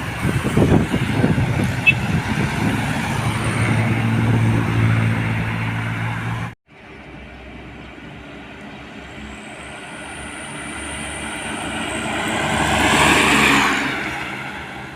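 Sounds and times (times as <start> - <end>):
truck diesel engine droning: 0.0 - 13.1
truck passing with whining tyres: 0.0 - 14.9.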